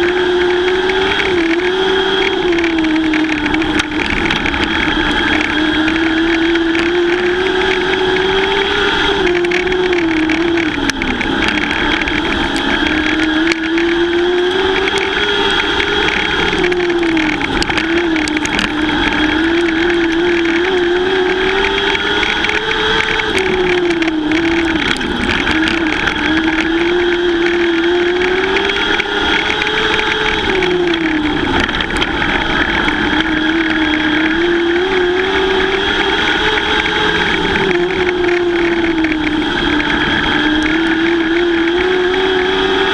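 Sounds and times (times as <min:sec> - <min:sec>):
race car engines running hard: 0:00.0 - 0:42.9.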